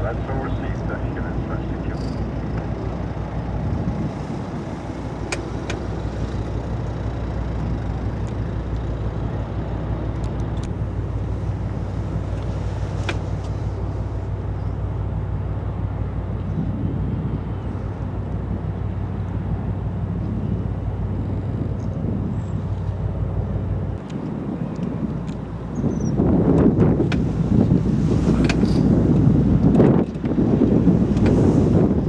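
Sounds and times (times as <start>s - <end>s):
constant low hum: 0.0s - 32.0s
low engine rumble: 0.0s - 32.0s.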